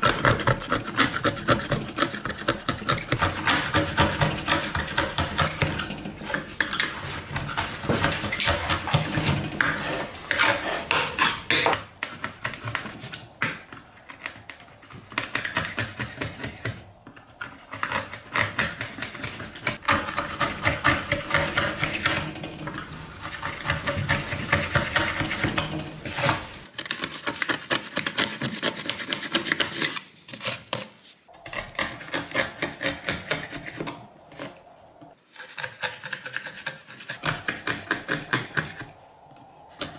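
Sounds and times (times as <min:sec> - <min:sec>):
chisel scraping wood: 0:00.0 - 0:39.0.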